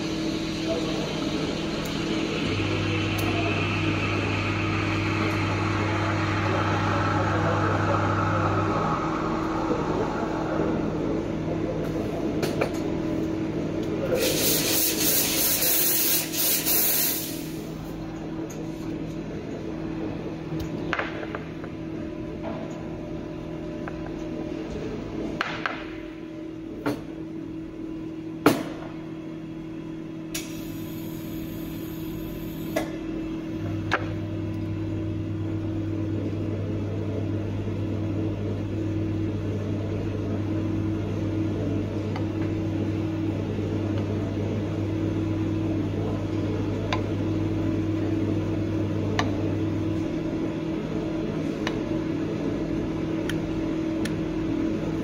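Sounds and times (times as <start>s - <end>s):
deeper machine hum: 0.0s - 55.0s
mechanical hum of equipment: 0.0s - 55.0s.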